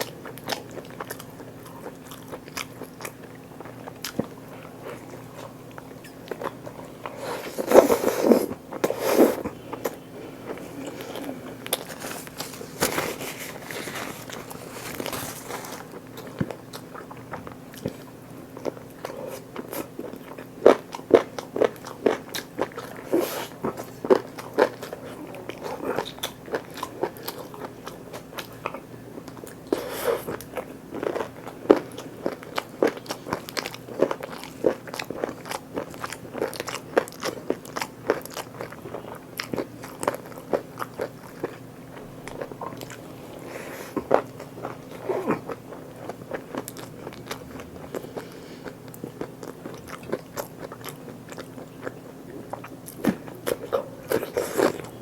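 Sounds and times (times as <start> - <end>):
faint hum: 0.0 - 55.0
person chewing food: 0.0 - 55.0.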